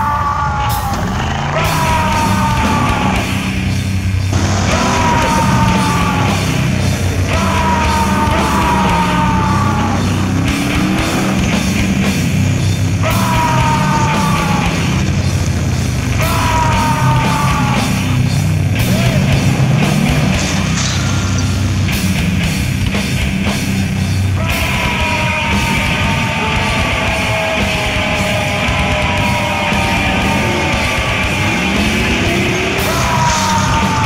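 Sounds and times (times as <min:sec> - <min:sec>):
rock music: 0:00.0 - 0:34.0
steady low bass: 0:00.8 - 0:33.3.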